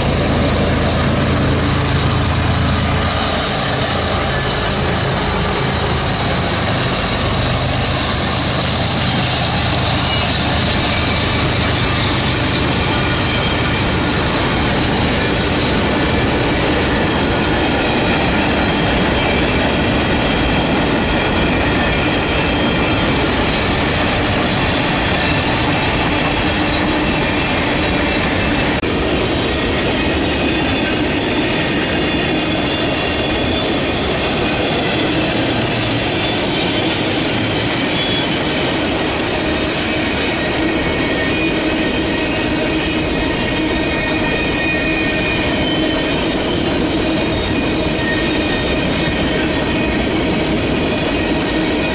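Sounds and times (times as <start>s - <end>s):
steel wheels squealing: 0.0s - 51.9s
train wheels rumbling on rail: 0.0s - 51.9s.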